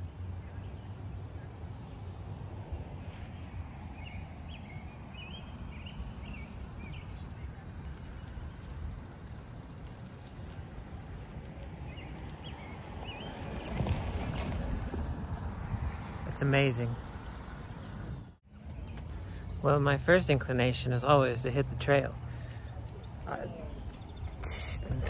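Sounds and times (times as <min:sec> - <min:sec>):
birds chirping: 0:00.0 - 0:14.7, 0:15.6 - 0:25.0
steady low rumble: 0:00.0 - 0:25.0.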